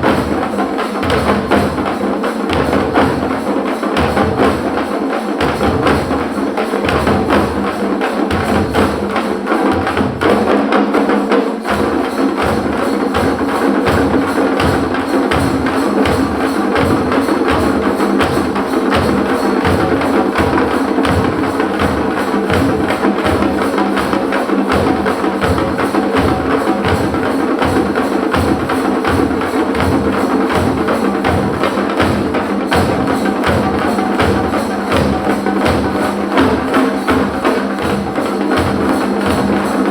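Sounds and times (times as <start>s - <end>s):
frame drums played with sticks: 0.0s - 39.9s.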